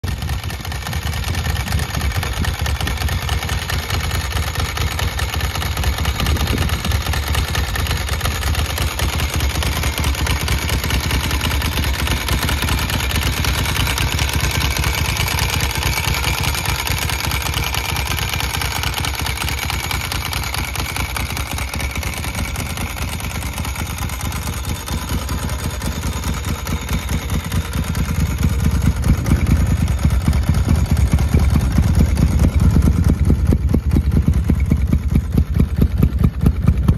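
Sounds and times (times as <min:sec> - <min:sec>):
motorcycle engine idling: 0:00.0 - 0:36.9
dry clutch clatter: 0:00.1 - 0:36.9.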